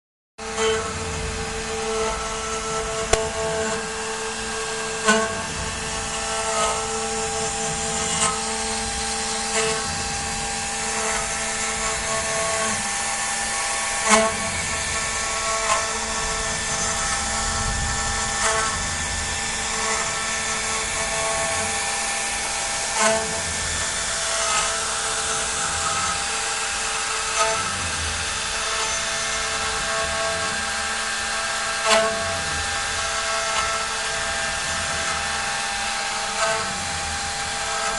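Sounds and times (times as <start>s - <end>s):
router spindle whining: 0.4s - 37.9s
bit rasping into wood: 0.6s - 37.9s.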